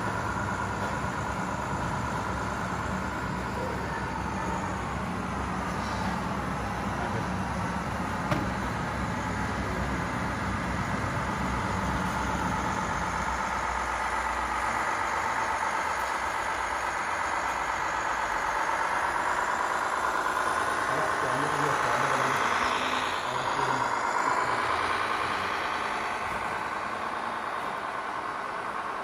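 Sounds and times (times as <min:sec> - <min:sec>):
low engine-like rumble: 0:00.0 - 0:29.0
motor and gear whine: 0:00.0 - 0:29.0.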